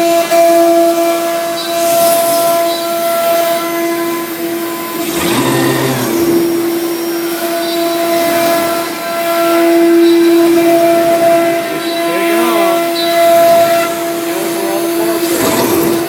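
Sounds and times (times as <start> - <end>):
router high whine and hiss: 0.0 - 16.0.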